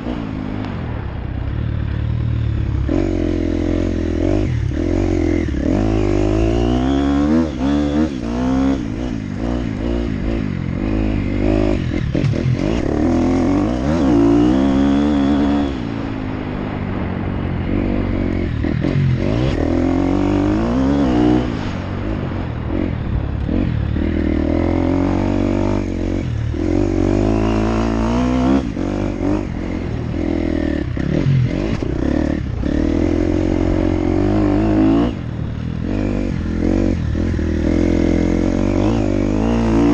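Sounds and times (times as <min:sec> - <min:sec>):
dirt bike engine revving: 0:02.2 - 0:39.9.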